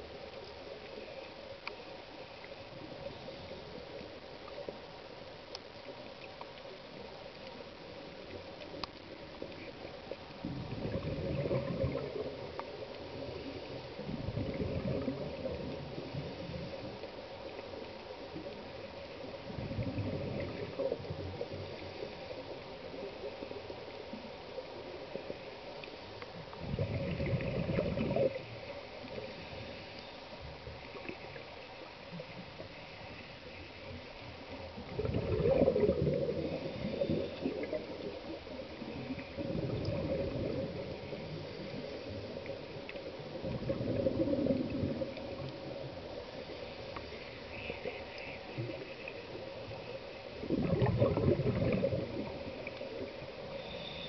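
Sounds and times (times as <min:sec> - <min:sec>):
faint steady hum: 0:00.0 - 0:54.0
underwater exhaust bubbles: 0:00.0 - 0:54.0.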